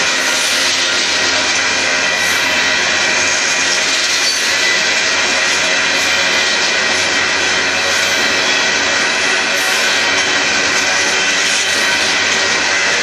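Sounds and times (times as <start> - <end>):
train wheels rolling on rail: 0.0 - 13.0.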